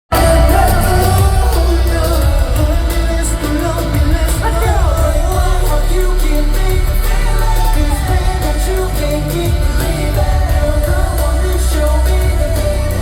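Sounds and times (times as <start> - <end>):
amplified pop music with heavy bass: 0.0 - 13.0
person singing: 0.1 - 13.0.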